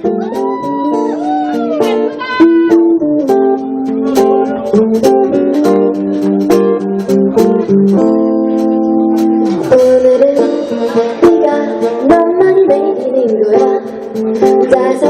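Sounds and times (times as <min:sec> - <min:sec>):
acoustic guitar picking chords: 0:00.0 - 0:15.0.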